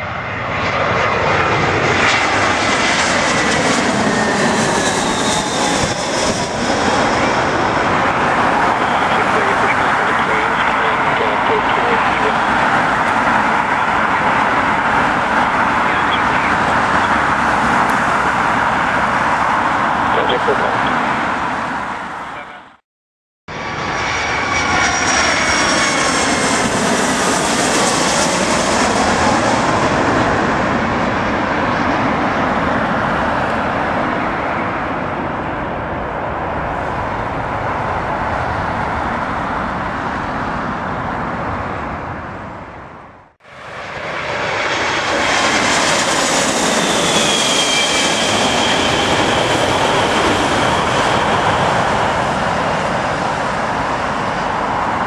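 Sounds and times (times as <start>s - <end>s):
high jet engine whine: 0.0s - 22.8s, 23.5s - 55.0s
jet airliner passing overhead: 0.0s - 22.8s, 23.5s - 55.0s.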